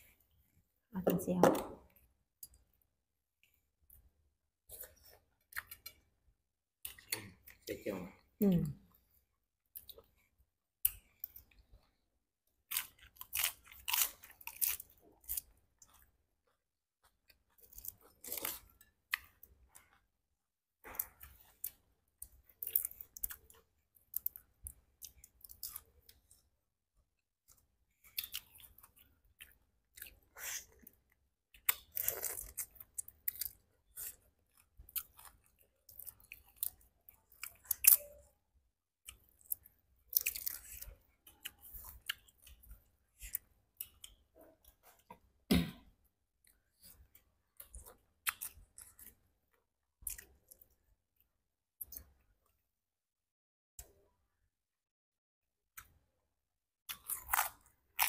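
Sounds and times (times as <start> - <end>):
people chewing and crunching: 1.9 - 20.2, 20.8 - 26.6, 27.2 - 38.4, 39.0 - 45.8, 46.4 - 52.6, 56.9 - 58.0.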